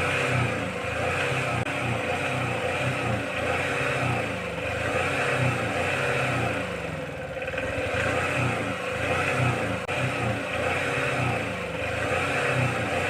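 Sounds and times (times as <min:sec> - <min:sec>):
engine throbbing: 0:00.0 - 0:13.0.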